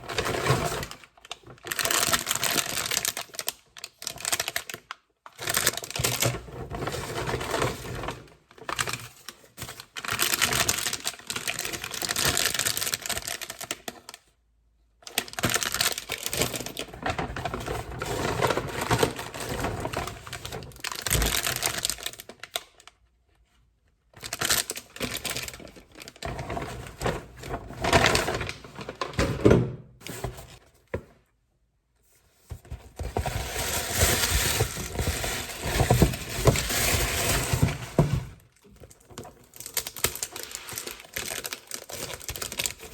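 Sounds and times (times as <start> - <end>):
packaging rustling and crinkling: 0.0 - 14.2, 15.1 - 22.9, 24.2 - 29.4, 32.4 - 42.9.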